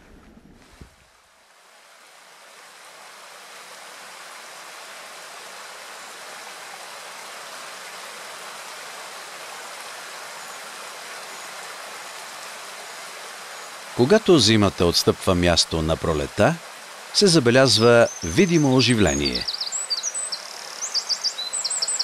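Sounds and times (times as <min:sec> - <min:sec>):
stream rushing over rocks: 0:01.3 - 0:22.0.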